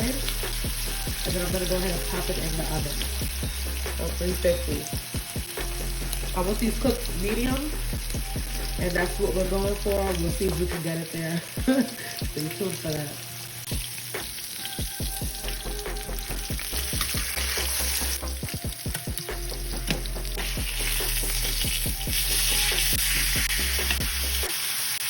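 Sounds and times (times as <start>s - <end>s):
steak sizzling in a pan: 0.0s - 25.0s.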